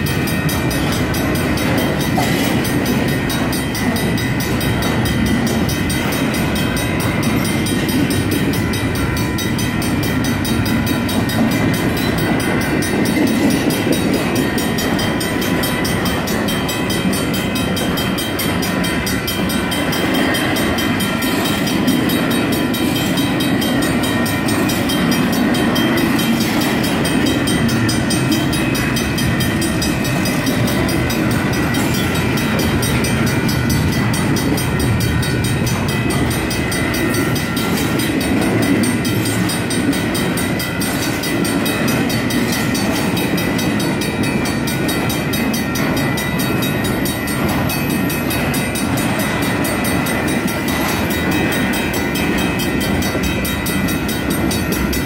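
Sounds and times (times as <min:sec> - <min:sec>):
crossing bells ringing: 0:00.0 - 0:55.0
freight train wheels rumbling on rail: 0:00.0 - 0:55.0.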